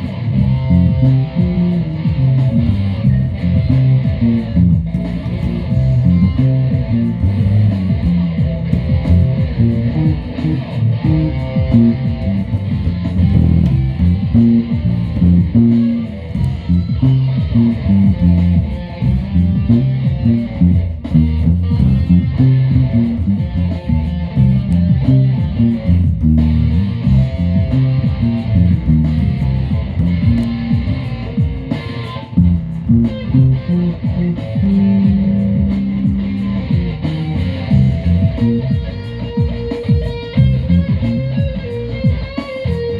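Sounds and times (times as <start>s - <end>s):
electric guitar music: 0.0s - 42.9s.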